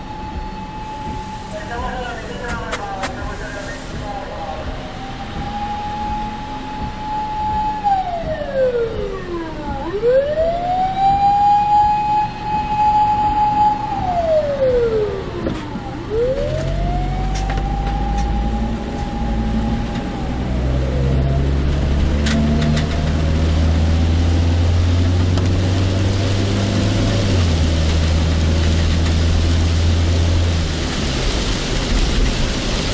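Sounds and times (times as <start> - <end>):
car engine and tyres rumble: 0.0 - 32.9
siren wailing: 0.0 - 32.9.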